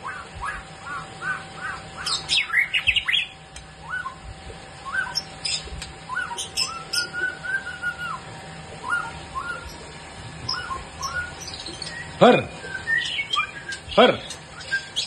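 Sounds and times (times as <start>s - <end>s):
songbird singing: 0.0s - 8.2s, 8.8s - 15.0s.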